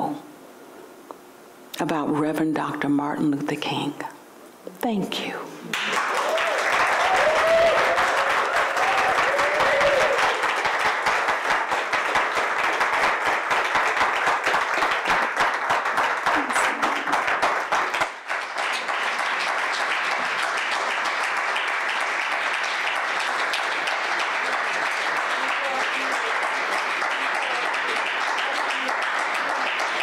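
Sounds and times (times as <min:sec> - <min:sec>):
crowd applauding: 0:05.7 - 0:30.0.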